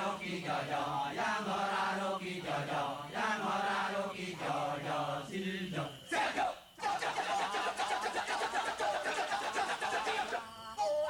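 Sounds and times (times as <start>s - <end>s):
chorus chanting: 0.0s - 10.8s.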